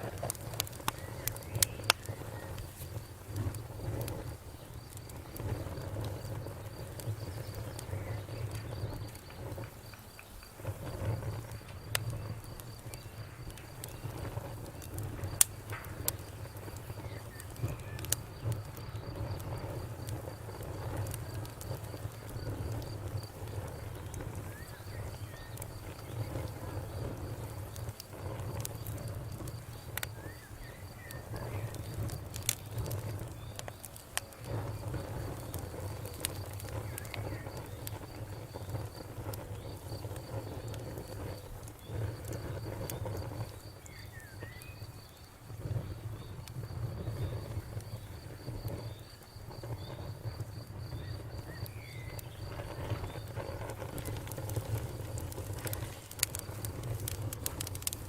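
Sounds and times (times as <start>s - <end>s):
campfire crackling: 0.0s - 58.0s
cricket chirping: 0.0s - 58.0s.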